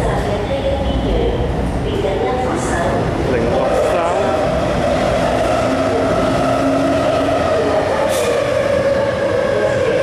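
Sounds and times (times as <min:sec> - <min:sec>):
electric train humming and whining: 0:00.0 - 0:10.0.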